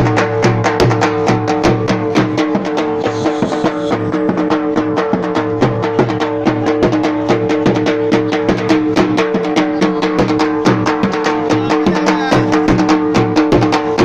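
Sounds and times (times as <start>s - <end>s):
drum beating fast rhythm: 0.0s - 14.0s.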